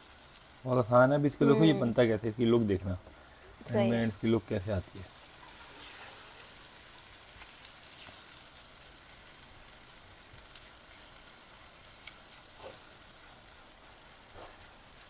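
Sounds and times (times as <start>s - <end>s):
eggs sizzling faintly in a pan: 0.0s - 15.0s.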